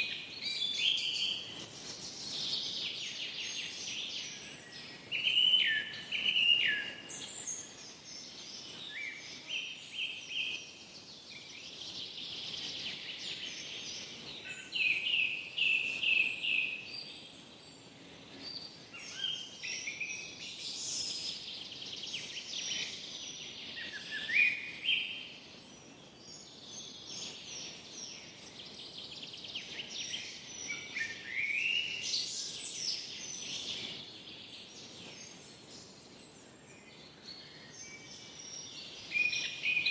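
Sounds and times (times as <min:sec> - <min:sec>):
birds singing: 0:00.0 - 0:39.9
faint background hiss: 0:00.0 - 0:39.9.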